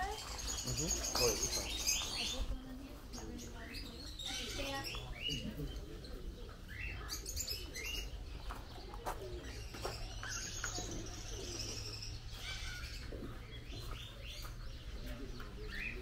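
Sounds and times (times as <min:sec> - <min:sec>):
pigeons cooing: 0:00.0 - 0:16.0
small birds chirping: 0:00.0 - 0:16.0.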